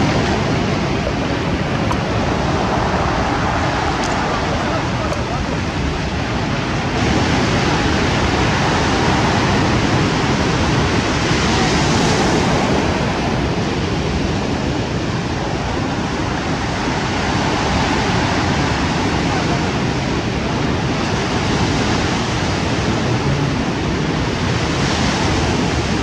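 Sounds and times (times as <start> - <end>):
sea surf breaking on shore: 0.0 - 26.0.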